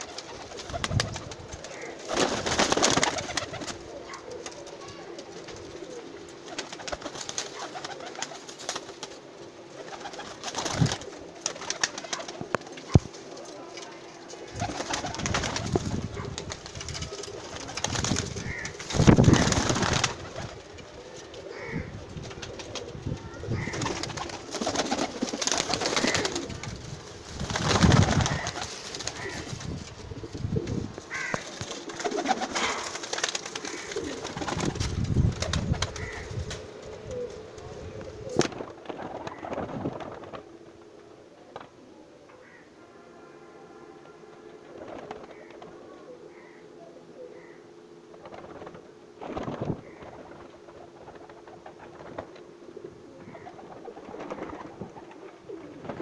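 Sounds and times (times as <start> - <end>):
wings flapping: 0.0 - 40.9, 44.6 - 45.8, 48.0 - 52.6, 53.2 - 56.0
pigeons cooing: 0.0 - 42.7, 44.4 - 56.0.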